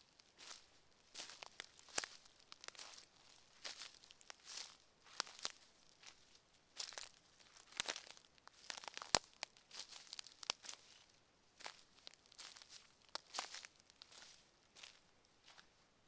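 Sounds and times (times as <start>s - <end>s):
footsteps on forest floor: 0.4s - 11.0s, 11.6s - 15.7s.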